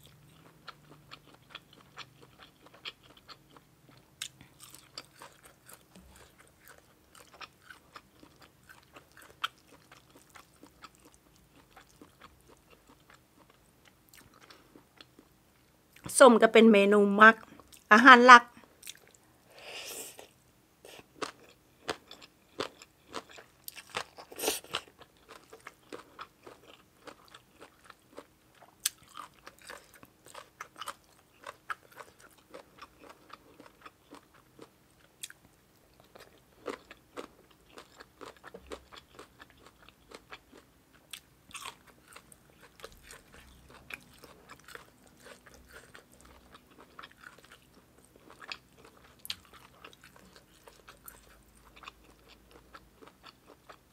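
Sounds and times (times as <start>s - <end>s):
person chewing crunchy food: 0.0s - 16.1s, 18.6s - 19.2s, 19.8s - 53.9s.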